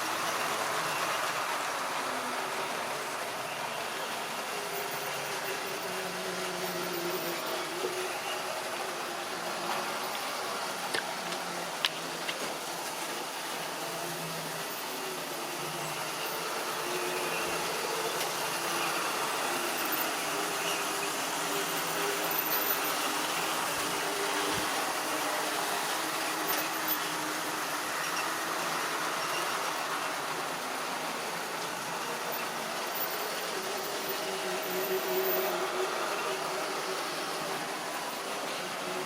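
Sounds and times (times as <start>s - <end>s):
model train motor whirring: 0.0s - 39.0s.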